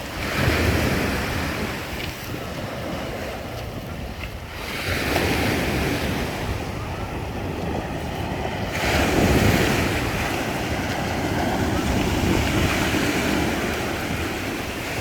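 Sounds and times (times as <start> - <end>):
waves breaking on shore: 0.0 - 15.0
wind buffeting microphone: 0.0 - 15.0.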